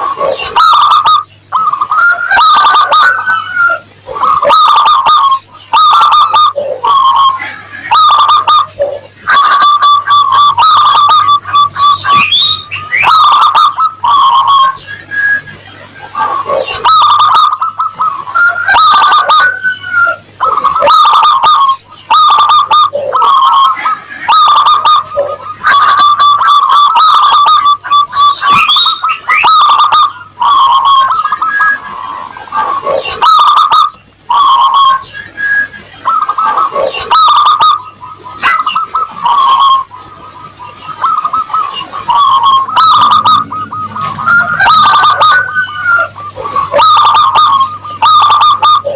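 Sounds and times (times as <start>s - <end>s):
doves cooing: 0.0s - 48.9s
faint electrical hum: 0.0s - 48.9s.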